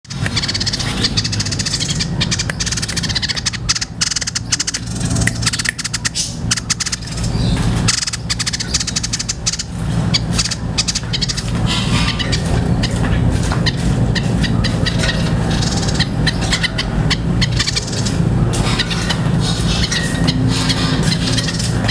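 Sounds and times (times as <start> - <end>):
bird rattling chatter: 0.1 - 21.9
steady low hum: 0.1 - 21.9.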